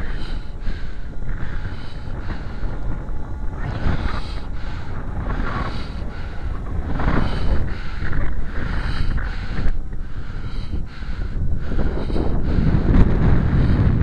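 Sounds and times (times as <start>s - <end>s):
model plane motor whine: 0.0s - 14.0s
wind buffeting microphone: 0.0s - 14.0s.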